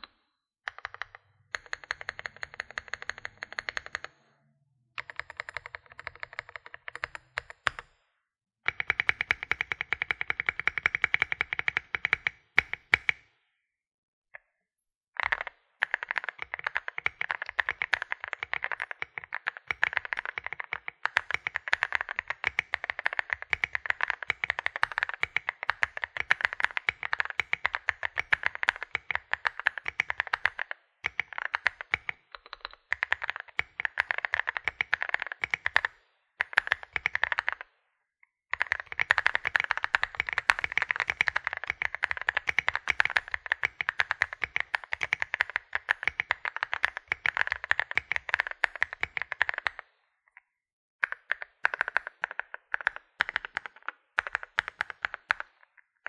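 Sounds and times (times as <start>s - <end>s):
typing on mechanical keyboard: 0.7s - 4.2s, 5.0s - 7.9s, 8.7s - 13.2s, 15.2s - 37.7s, 38.5s - 49.8s, 51.0s - 56.0s.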